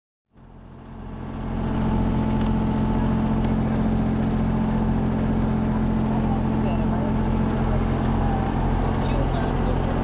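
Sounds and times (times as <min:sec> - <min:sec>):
boat engine running: 0:00.3 - 0:10.0
wind: 0:00.3 - 0:10.0
water rushing: 0:01.1 - 0:10.0.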